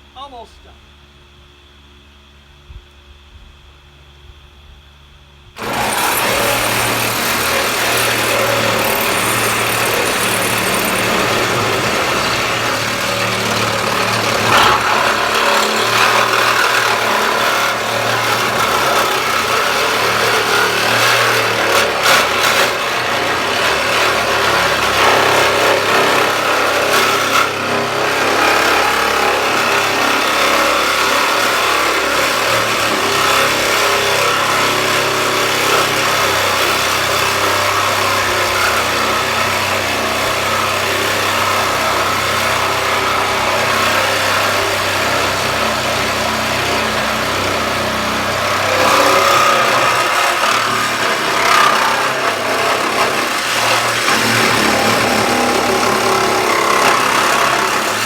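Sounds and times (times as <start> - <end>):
motor hum: 0.0 - 58.0
power tool cutting sheet metal: 5.6 - 58.0.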